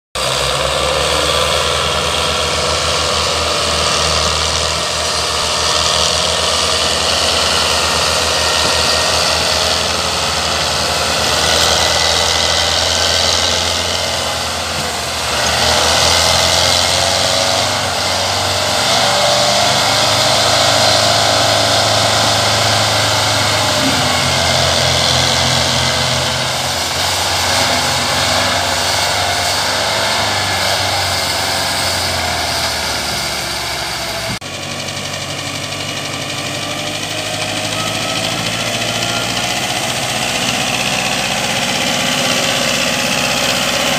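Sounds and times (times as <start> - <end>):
tractor diesel engine rumbling: 0.2 - 43.9.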